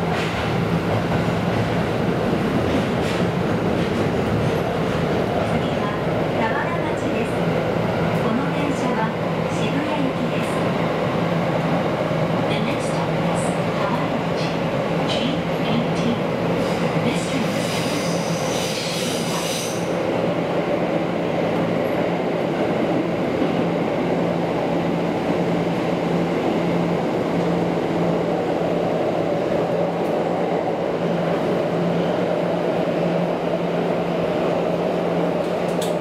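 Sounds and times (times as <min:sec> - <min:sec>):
rumble of train wheels on track: 0:00.0 - 0:36.0.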